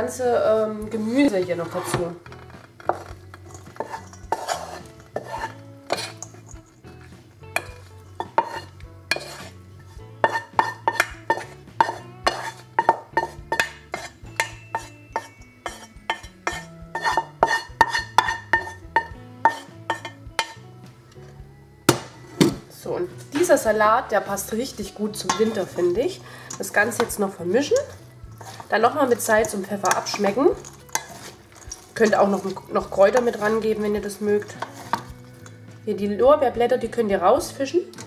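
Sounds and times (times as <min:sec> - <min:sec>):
quiet background music: 0:00.0 - 0:38.0
spatula scraping frying pan: 0:01.0 - 0:20.7, 0:23.2 - 0:35.7.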